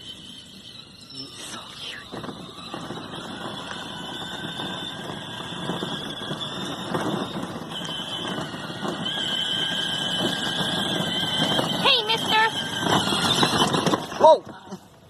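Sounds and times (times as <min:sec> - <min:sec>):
electric motor high-pitched whine: 0:00.0 - 0:14.1
rough rolling noise: 0:00.0 - 0:15.0.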